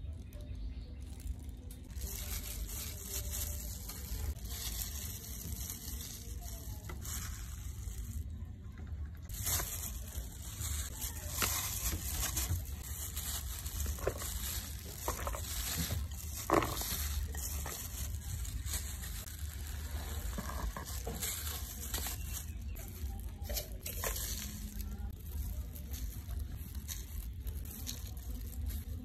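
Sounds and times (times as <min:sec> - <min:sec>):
plastic glove rustling: 0:00.0 - 0:29.0.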